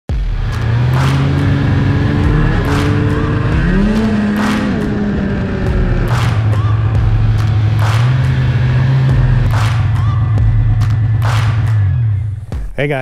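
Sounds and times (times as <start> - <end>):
snowmobile engine revving: 0.1 - 12.4.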